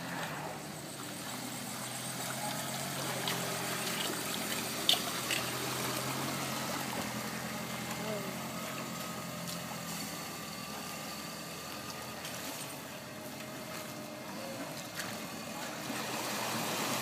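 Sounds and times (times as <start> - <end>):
car engine humming: 0.0 - 17.0
water washing around tyres: 0.0 - 17.0.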